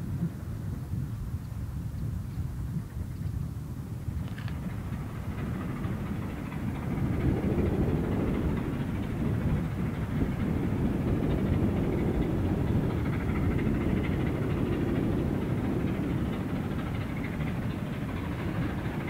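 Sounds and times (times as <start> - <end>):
steam locomotive rumble: 3.5 - 19.0.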